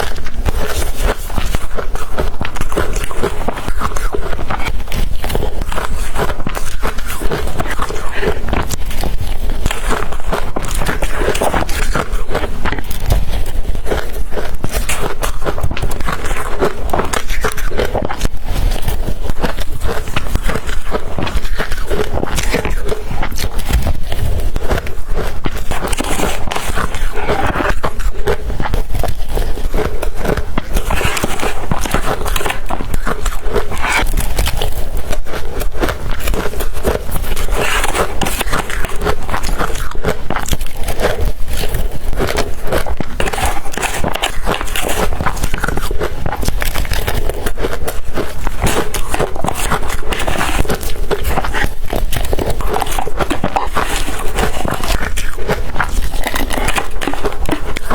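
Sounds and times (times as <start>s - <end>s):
crushed ice being chewed: 0.0s - 57.9s.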